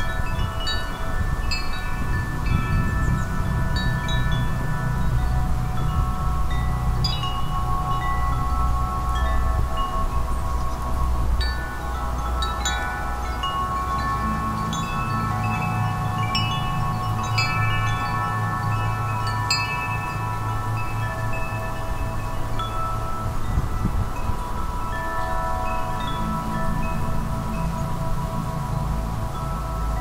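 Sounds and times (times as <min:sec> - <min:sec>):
low wind rumble: 0:00.0 - 0:30.0
wind chimes ringing: 0:00.0 - 0:30.0.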